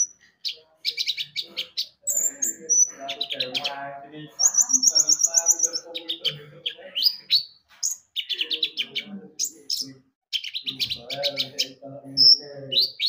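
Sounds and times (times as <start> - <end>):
bird twittering: 0.0 - 13.0.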